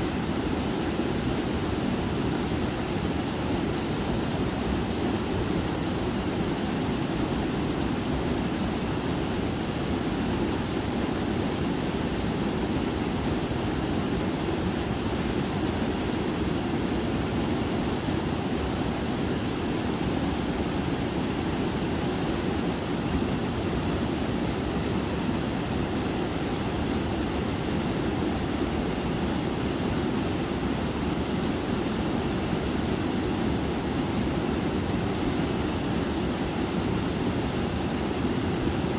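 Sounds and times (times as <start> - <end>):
stream and waterfall rushing: 0.0 - 38.9.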